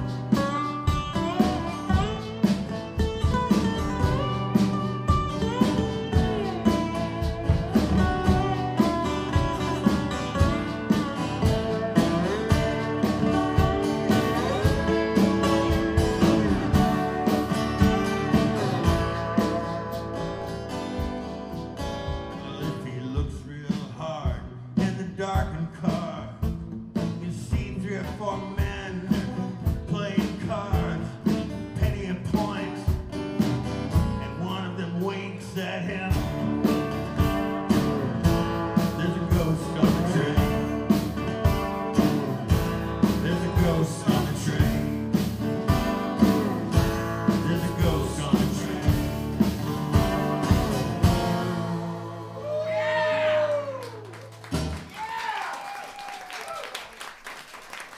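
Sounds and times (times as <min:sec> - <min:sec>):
acoustic guitars strumming: 0:00.0 - 0:55.0.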